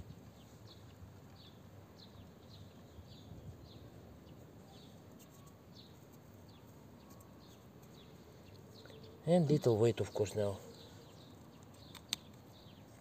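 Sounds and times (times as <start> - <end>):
faint bird chirps: 0.3 - 13.0.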